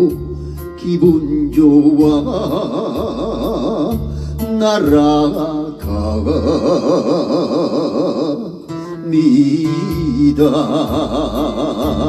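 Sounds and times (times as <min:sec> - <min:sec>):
slow song with singing voice: 0:00.0 - 0:12.0.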